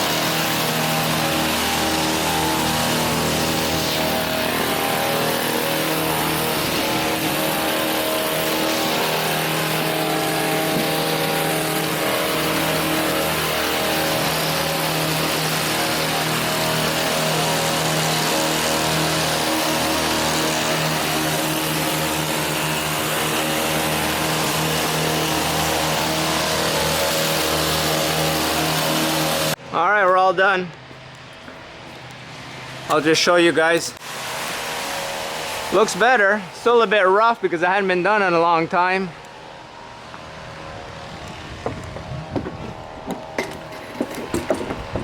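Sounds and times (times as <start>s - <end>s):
hedge trimmer running: 0.0s - 45.0s.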